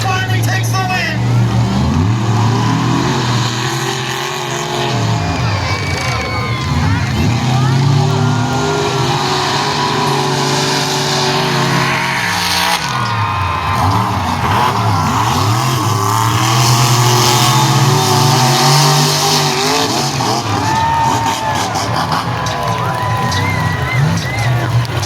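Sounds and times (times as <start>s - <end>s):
truck engines racing: 0.0s - 25.0s.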